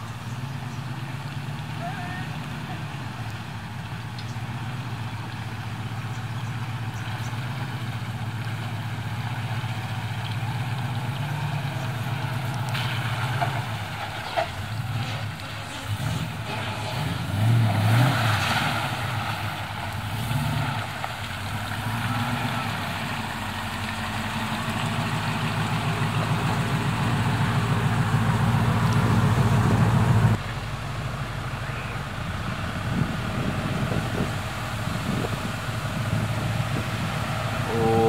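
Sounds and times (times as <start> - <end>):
engine working under load: 0.0 - 38.0.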